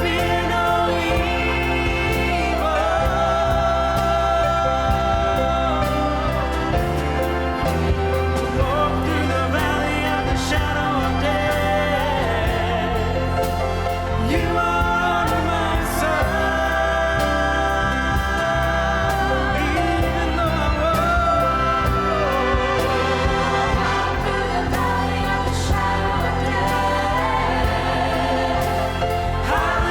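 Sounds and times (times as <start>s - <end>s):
choir singing: 0.0s - 29.9s
orchestral accompaniment: 0.0s - 29.9s.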